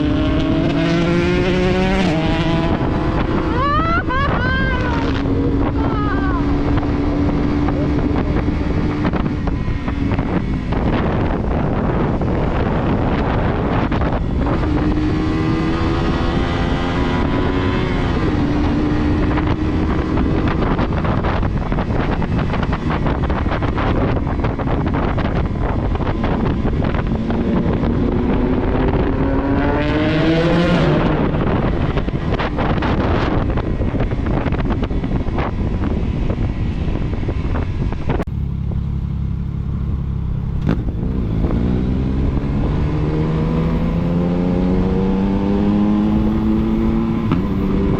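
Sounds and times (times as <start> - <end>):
motorcycle engine accelerating: 0.0 - 47.9
wind on microphone: 0.0 - 47.9.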